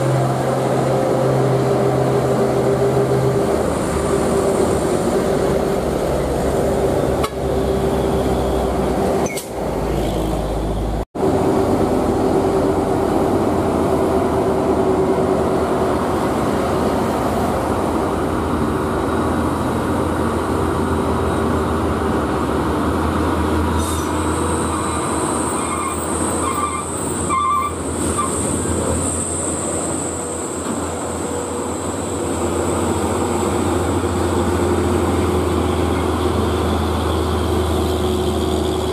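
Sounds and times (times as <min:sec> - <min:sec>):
heavy diesel truck engine labouring: 0:00.0 - 0:38.9.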